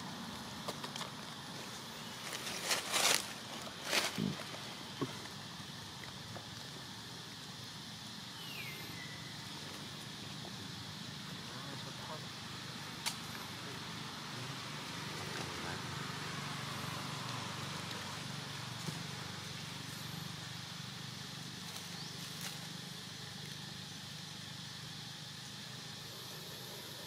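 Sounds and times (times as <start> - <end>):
faint hiss: 0.0 - 27.0.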